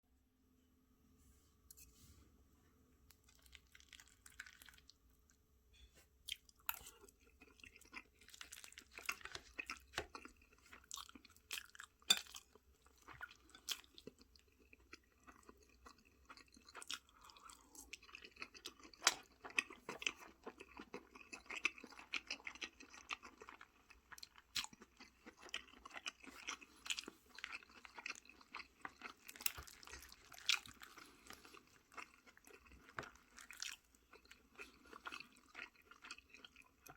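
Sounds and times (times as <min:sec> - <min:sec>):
food crunching: 0:03.1 - 0:05.0, 0:06.3 - 0:36.9
person chewing food: 0:03.1 - 0:05.4, 0:06.3 - 0:36.9.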